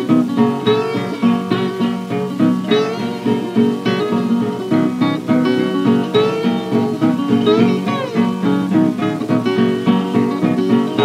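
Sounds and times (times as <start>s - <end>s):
acoustic guitar blues picking: 0.0s - 11.0s.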